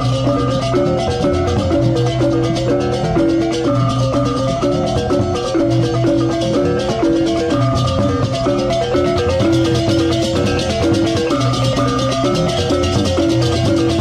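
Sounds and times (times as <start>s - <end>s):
drums: 0.0s - 14.0s
fast steady cymbal clashing: 0.0s - 14.0s
gamelan mallet instruments melody: 0.0s - 14.0s.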